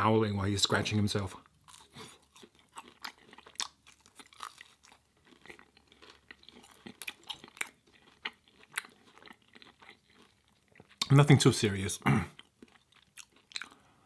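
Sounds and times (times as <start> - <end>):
person chewing: 1.4 - 11.1, 12.0 - 14.0.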